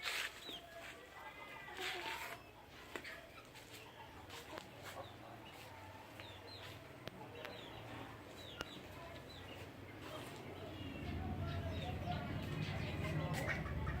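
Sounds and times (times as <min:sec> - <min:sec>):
chicks peeping: 0:00.1 - 0:14.0.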